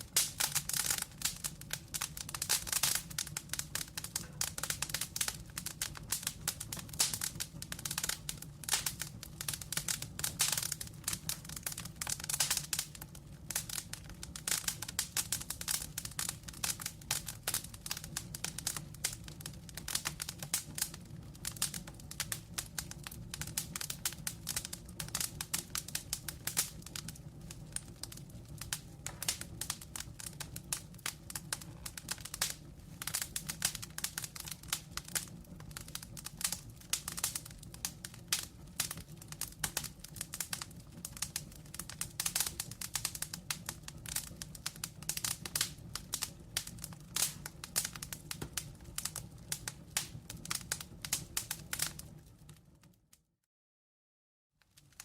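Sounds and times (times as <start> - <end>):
burning logs popping and snapping: 0.0 - 53.0, 54.7 - 55.0
low rustle of flame: 0.0 - 53.2, 54.6 - 55.0.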